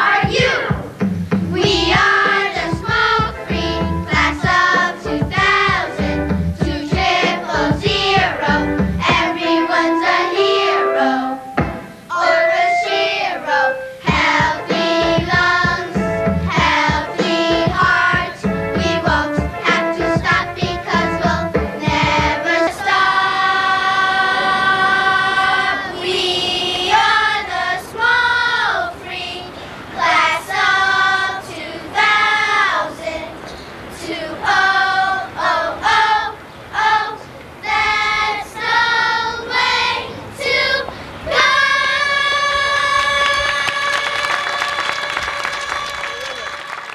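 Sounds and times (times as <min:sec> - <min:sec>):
children's choir singing: 0:00.0 - 0:46.9.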